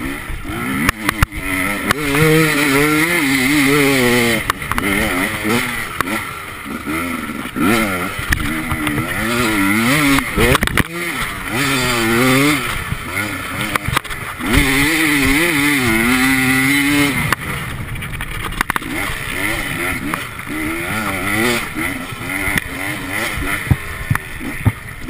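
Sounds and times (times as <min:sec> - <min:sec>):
motorcycle engine revving: 0:00.0 - 0:25.0
motorcycle knocking over bumps: 0:00.8 - 0:06.3, 0:07.4 - 0:25.0.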